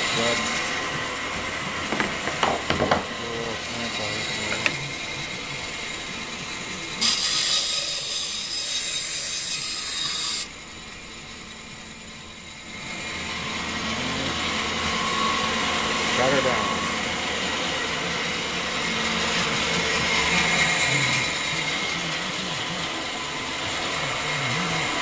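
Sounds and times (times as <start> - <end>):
saw blade cutting through board: 0.0 - 11.5, 12.5 - 25.0
bandsaw running: 0.0 - 25.0.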